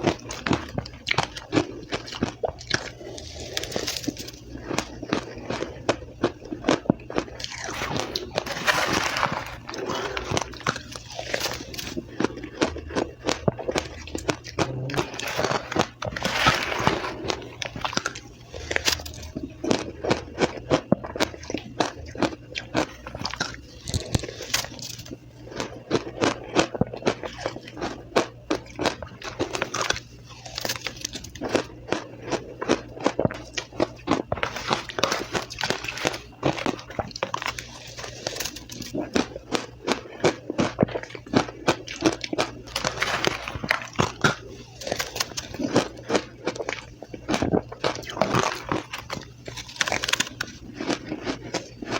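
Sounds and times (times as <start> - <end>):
crushed ice crunching being chewed: 0.0 - 51.9.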